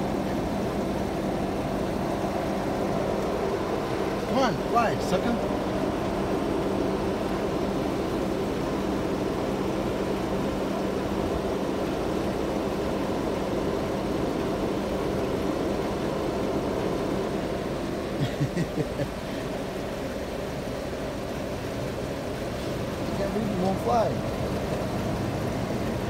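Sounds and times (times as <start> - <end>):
engine idling hum: 0.0 - 26.0.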